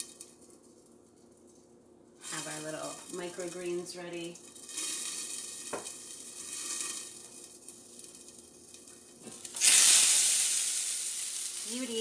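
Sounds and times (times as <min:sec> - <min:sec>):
batter sizzling in a skillet: 0:02.2 - 0:12.0.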